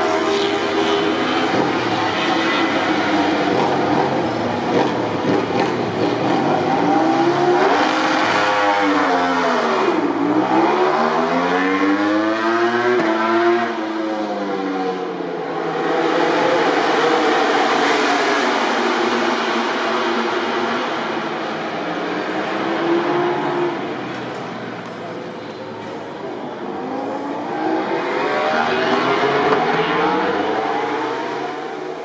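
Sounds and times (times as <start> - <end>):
racing motorcycle engines revving: 0.0 - 24.3, 26.5 - 32.0.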